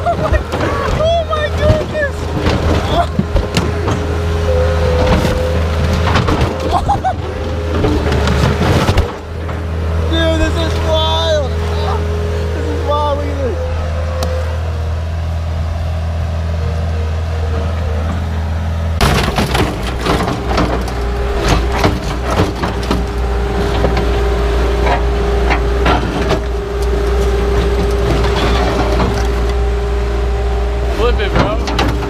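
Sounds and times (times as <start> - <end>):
clanking and crunching knocks: 0.0 - 12.3, 17.5 - 32.0
skid-steer loader engine: 0.0 - 32.0.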